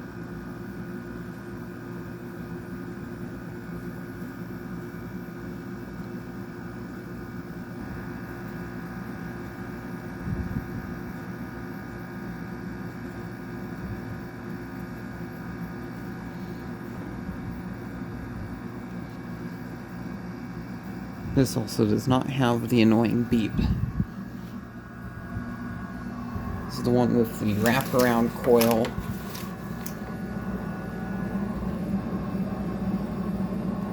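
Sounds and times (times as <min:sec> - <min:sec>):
air conditioner humming: 0:00.0 - 0:33.9.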